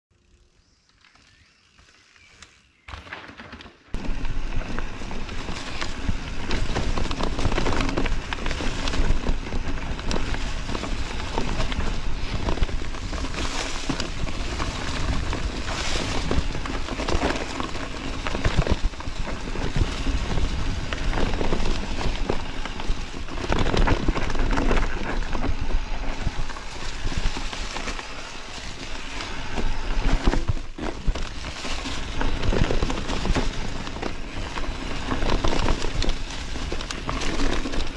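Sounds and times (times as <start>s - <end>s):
bike clattering: 0.1s - 37.9s
bike tyres crunching on dirt: 0.1s - 37.9s
wind rumble on microphone: 4.0s - 37.9s.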